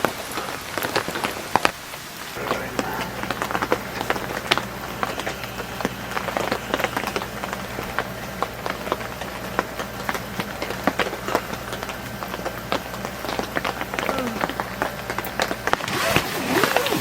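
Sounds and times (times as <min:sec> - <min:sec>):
heavy rain falling: 0:00.0 - 0:17.0
low hum: 0:00.0 - 0:17.0.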